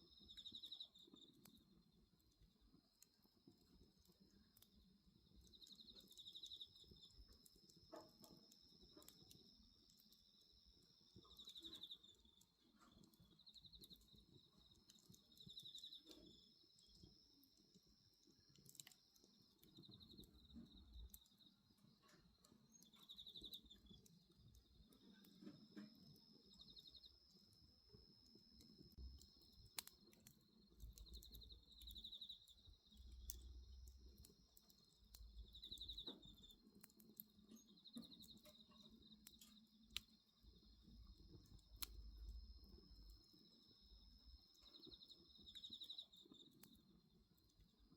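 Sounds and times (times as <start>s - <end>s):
steady high insect tone: 0.0s - 2.0s, 4.2s - 47.9s
insects chirping in trills: 0.0s - 47.9s
bonfire crackling and popping: 0.1s - 47.9s.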